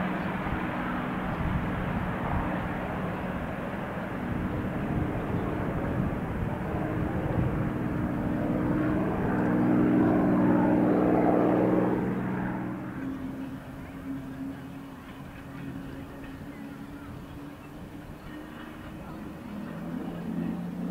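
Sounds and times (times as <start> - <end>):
propeller plane engine flying by: 0.0 - 20.9.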